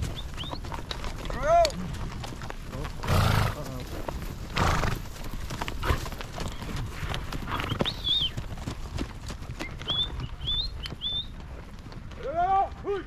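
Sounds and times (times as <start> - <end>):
horses trotting on gravel: 0.0 - 13.0.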